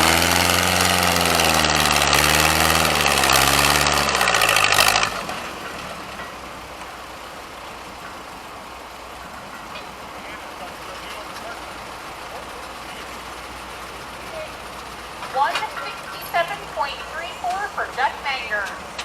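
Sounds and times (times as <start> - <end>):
outdoor background noise: 0.0 - 19.0
tractor engine running hard: 0.0 - 19.0.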